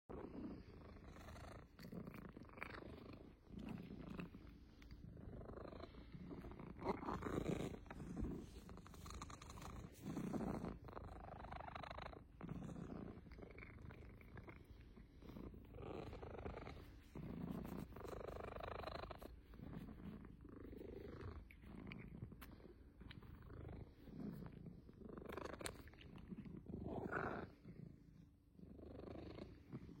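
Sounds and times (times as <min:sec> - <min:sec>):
cat purring: 0:00.1 - 0:30.0.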